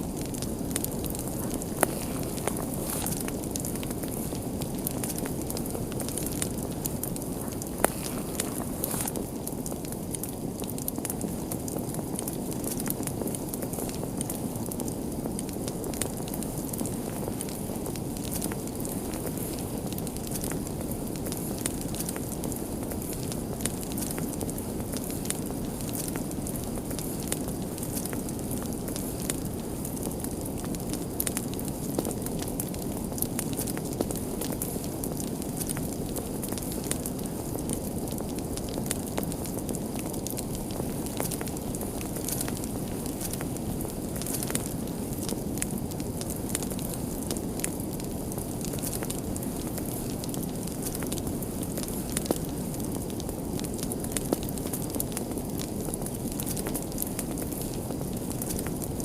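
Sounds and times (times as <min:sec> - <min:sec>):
fire crackling and popping: 0:00.0 - 0:59.0
low rush of flames: 0:00.0 - 0:59.0.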